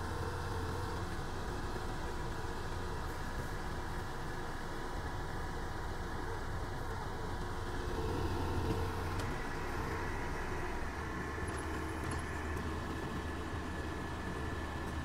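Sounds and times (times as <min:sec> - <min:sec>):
diesel engine low drone: 0:00.0 - 0:15.0.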